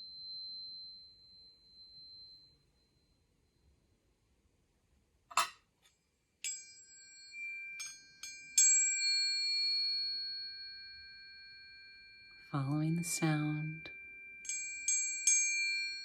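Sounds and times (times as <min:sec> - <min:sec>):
tuning forks ringing: 0:00.0 - 0:03.6, 0:06.4 - 0:16.0.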